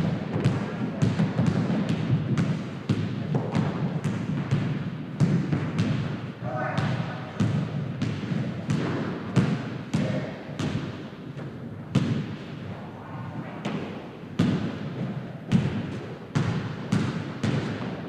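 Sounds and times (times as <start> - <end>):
basketball bouncing on hard floor: 0.0 - 6.2, 6.8 - 12.5, 13.6 - 18.0.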